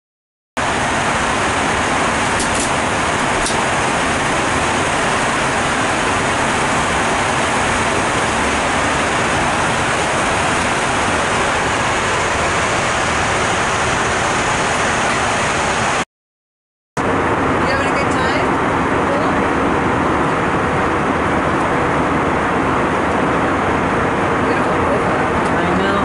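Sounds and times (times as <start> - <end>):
jet airliner cabin noise: 0.6 - 16.0, 17.0 - 26.0.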